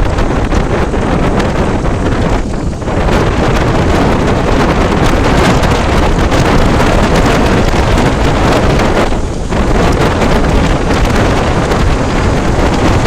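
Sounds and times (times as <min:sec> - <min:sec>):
motorcycle riding at speed: 0:00.0 - 0:13.0
wind rushing over microphone: 0:00.0 - 0:13.0.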